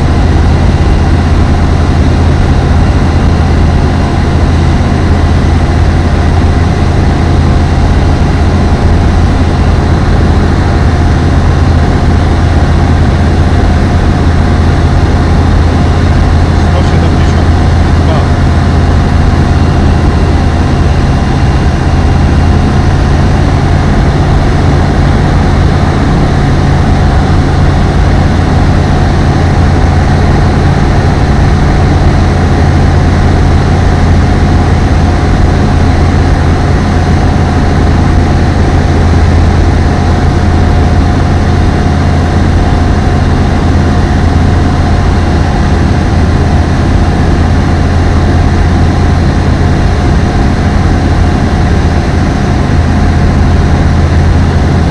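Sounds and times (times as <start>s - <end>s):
light aeroplane engine drone: 0.0s - 54.9s.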